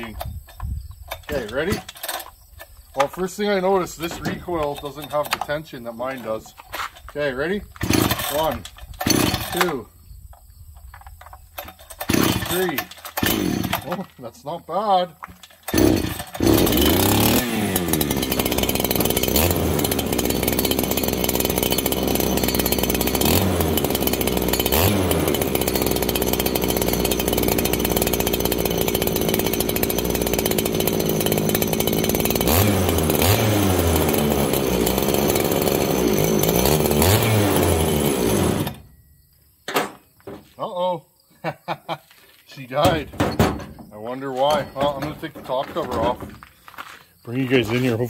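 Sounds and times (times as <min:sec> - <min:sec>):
chainsaw engine running: 0:01.1 - 0:02.4, 0:03.0 - 0:09.9, 0:11.6 - 0:14.6, 0:15.2 - 0:38.9, 0:44.0 - 0:48.0.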